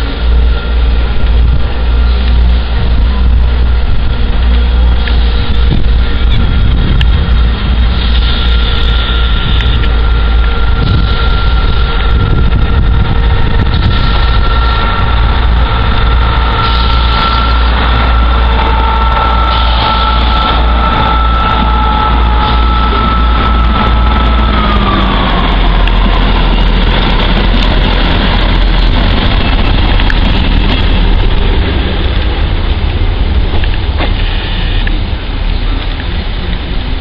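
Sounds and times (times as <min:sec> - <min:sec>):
diesel train passing: 0:00.0 - 0:37.0
train engine whine: 0:00.0 - 0:37.0.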